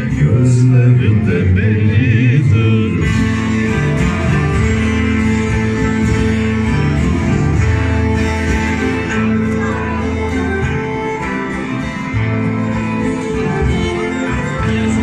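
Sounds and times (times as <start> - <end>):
acoustic guitar strummed: 0.0 - 15.0
bowed fiddle: 0.0 - 15.0.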